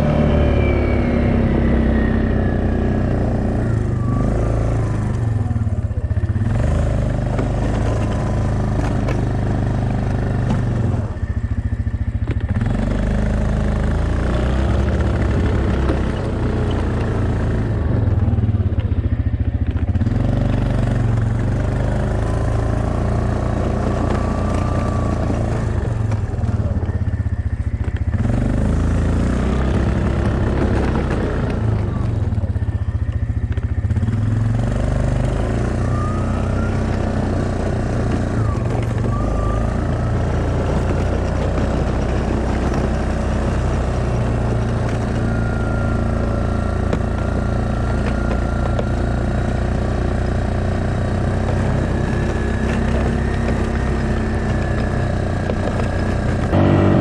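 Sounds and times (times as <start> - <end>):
atv engine running under load: 0.0 - 57.0.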